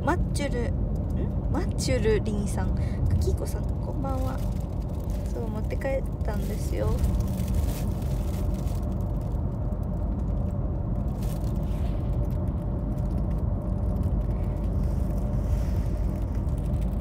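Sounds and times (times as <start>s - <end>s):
car cabin rumble: 0.0s - 17.0s
faint steady hum: 0.0s - 17.0s.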